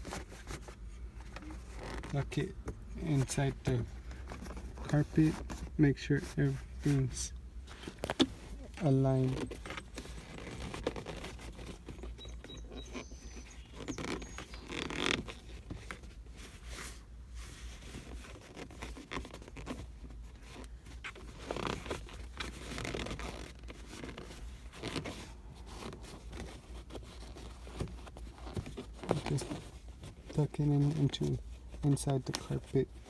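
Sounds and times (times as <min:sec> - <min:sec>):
fabric rustling against carpet: 0:00.0 - 0:33.0.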